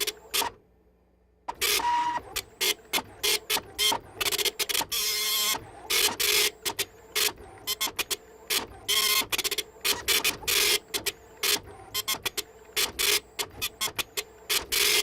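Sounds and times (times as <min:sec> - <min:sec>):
printer printing: 0:00.0 - 0:00.6, 0:01.5 - 0:15.0.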